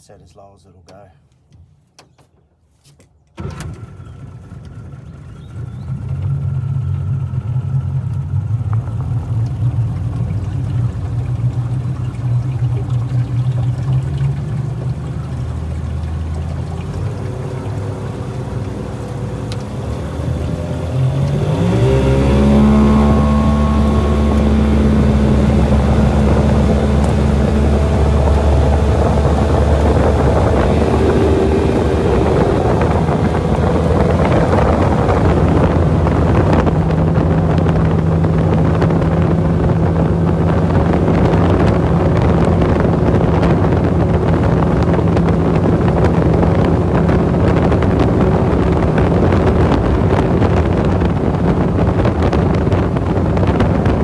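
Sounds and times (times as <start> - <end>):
outboard motor at full throttle: 3.4 - 54.0
wind buffeting microphone: 5.5 - 54.0
water rushing past hull: 5.9 - 54.0.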